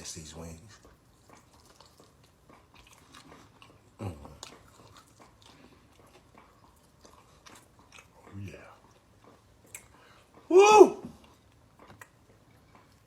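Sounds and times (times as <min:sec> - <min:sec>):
person chewing food: 0:00.7 - 0:13.0.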